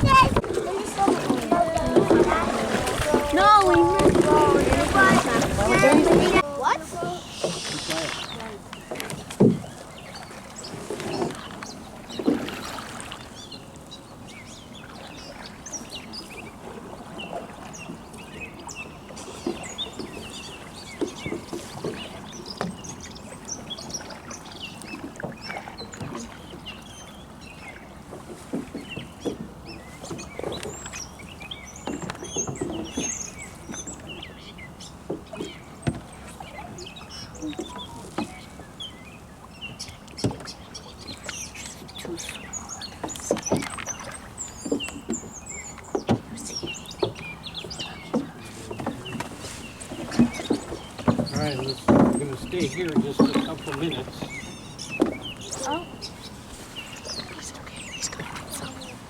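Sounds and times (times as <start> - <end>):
birds chirping: 0.0 - 59.0
paddle strokes in water: 0.0 - 59.0
paddles knocking canoe hull: 0.0 - 59.0.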